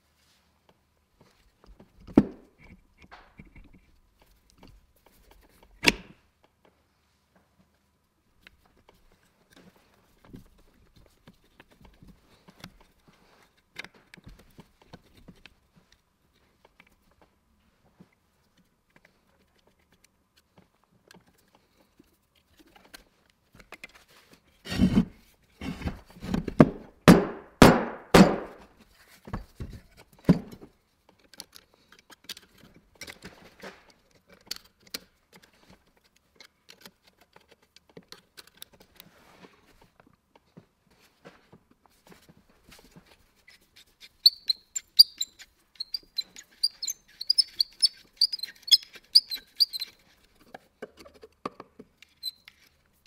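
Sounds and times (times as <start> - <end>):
faint clicks of parts handled: 0.2 - 24.6, 28.7 - 53.0.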